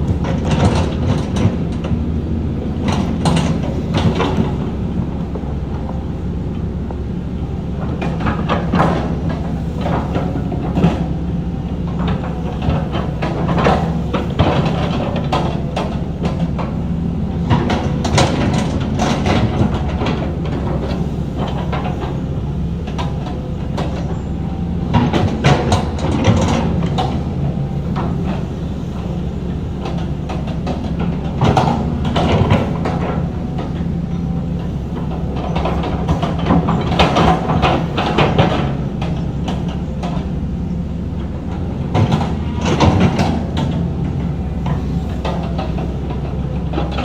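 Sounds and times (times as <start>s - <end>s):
diesel machinery engine drone: 0.0s - 47.0s.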